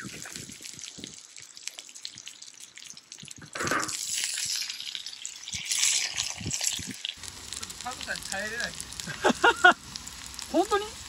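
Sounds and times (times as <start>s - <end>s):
potatoes sizzling in a skillet: 0.0s - 11.0s.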